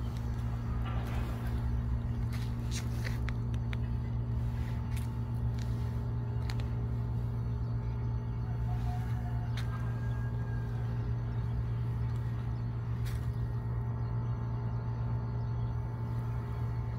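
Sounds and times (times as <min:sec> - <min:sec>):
low mechanical hum: 0:00.0 - 0:16.9
low rumble: 0:00.0 - 0:16.9.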